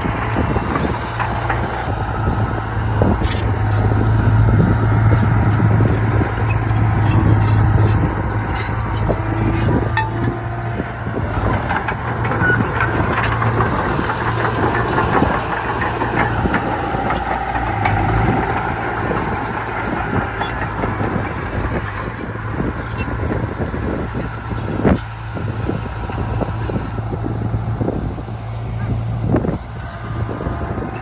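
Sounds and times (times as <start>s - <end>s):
metal clanks and rattles: 0.0s - 26.8s
heavy diesel machinery running: 0.0s - 31.0s.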